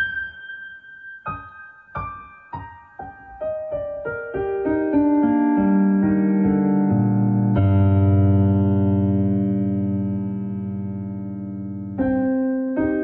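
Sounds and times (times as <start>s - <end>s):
piano notes and chords: 0.0s - 13.0s.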